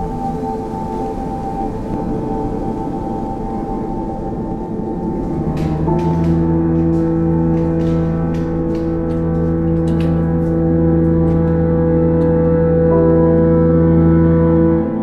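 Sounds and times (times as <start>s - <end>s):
ambient music with gong-like tones: 0.0s - 15.0s.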